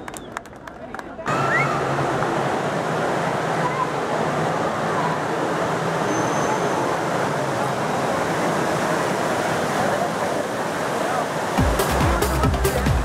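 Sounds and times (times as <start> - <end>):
crowd murmur: 0.0 - 13.0
fountain water rushing: 0.9 - 13.0.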